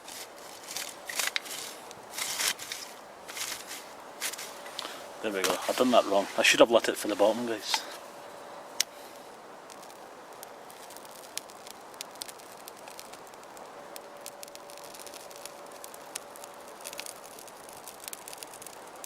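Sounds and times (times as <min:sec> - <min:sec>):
flame hissing: 0:00.0 - 0:19.0
sticks crackling and popping in fire: 0:00.0 - 0:19.0.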